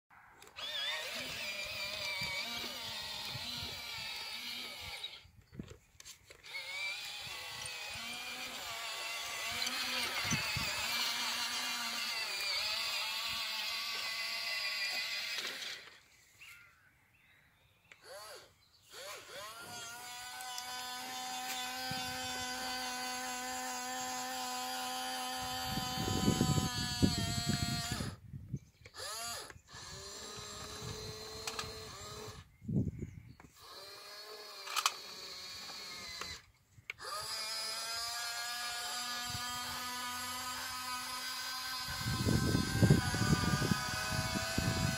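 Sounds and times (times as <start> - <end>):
electric motors whining: 0.4 - 16.7, 17.9 - 28.2, 28.8 - 32.5, 33.3 - 44.9.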